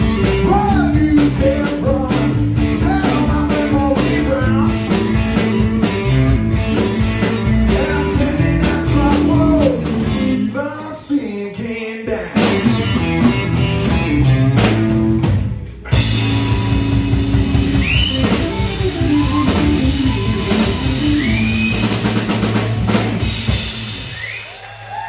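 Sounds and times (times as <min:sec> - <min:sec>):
drum kit: 0:00.0 - 0:10.5, 0:12.1 - 0:25.0
electric guitars: 0:00.0 - 0:10.8, 0:12.2 - 0:25.0.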